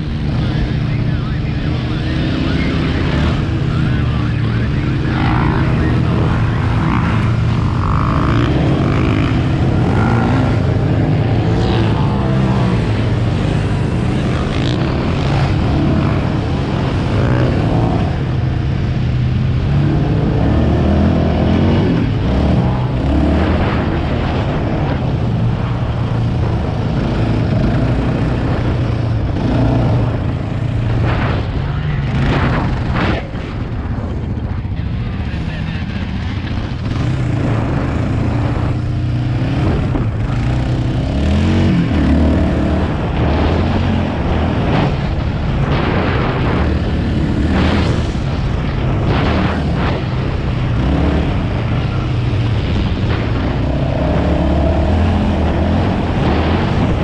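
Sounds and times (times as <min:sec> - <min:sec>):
atv engine running hard: 0:00.0 - 0:57.0.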